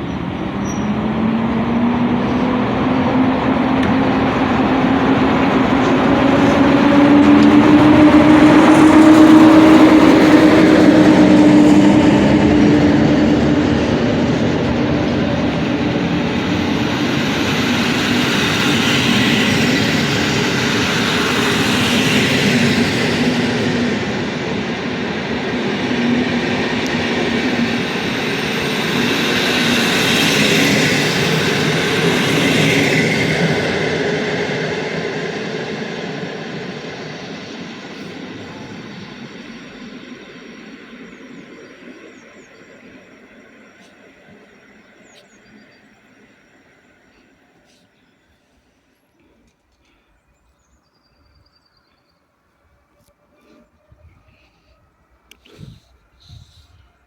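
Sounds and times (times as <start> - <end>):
train passing on rails: 0.0 - 57.0
wheel and rail hiss: 2.1 - 50.2.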